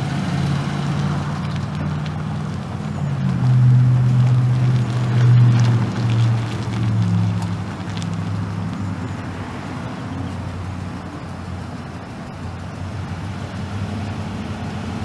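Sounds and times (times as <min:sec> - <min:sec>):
pickup truck engine running: 0:00.0 - 0:15.0.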